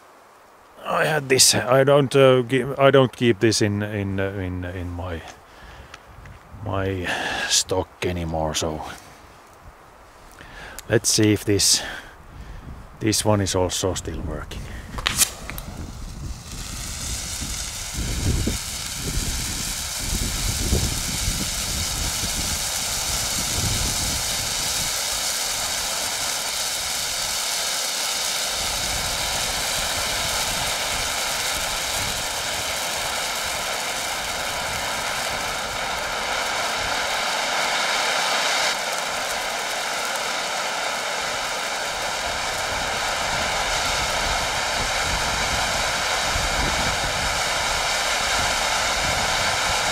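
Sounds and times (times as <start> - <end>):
hand flare burning hiss: 4.8 - 49.9.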